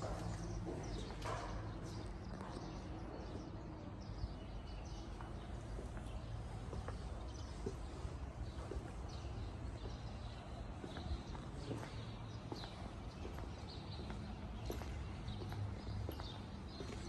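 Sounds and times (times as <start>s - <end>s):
footsteps on tiled floor: 0.0s - 17.0s.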